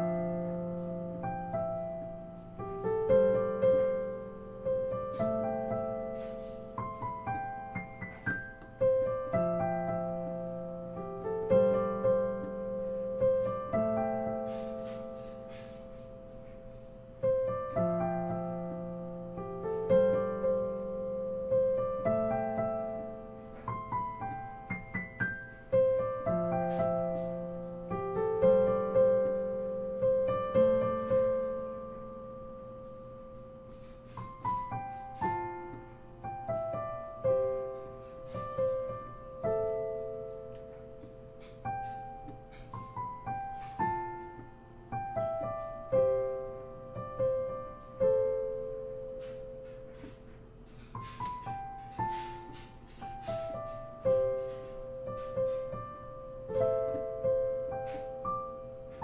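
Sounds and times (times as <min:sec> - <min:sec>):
digital piano chords and melody: 0:00.0 - 0:59.0.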